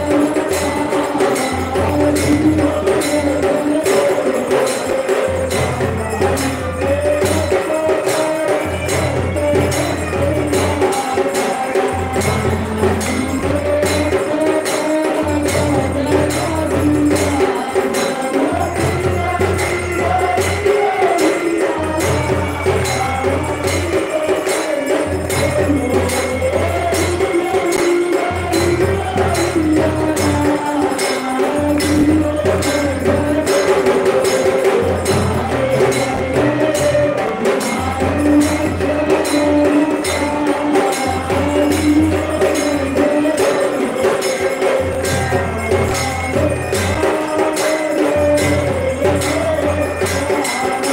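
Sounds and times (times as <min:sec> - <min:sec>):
jingling metal percussion: 0:00.0 - 0:50.9.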